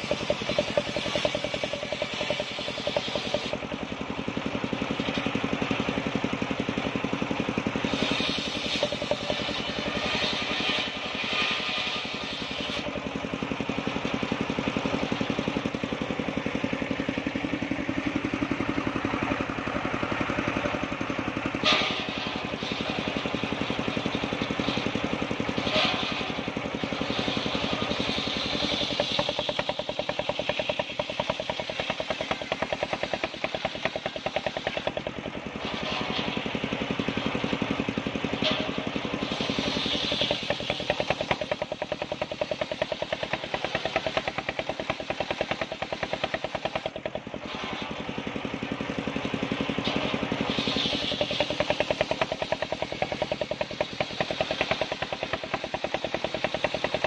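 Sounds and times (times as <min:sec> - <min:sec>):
circular saw cutting wood: 0:00.0 - 0:57.0.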